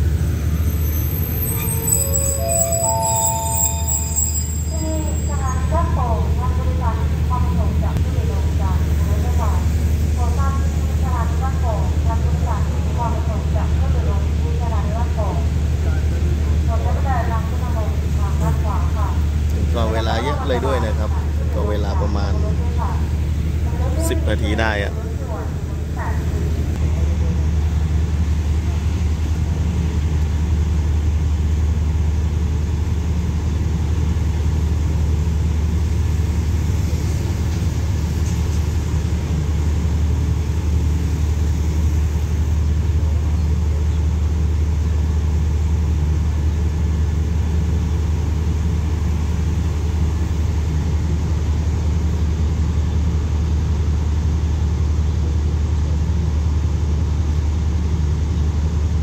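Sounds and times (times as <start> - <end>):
diesel train engines idling: 0.0 - 59.0.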